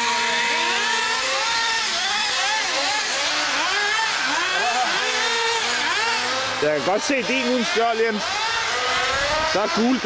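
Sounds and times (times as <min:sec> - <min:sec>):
small engines revving: 0:00.0 - 0:10.0.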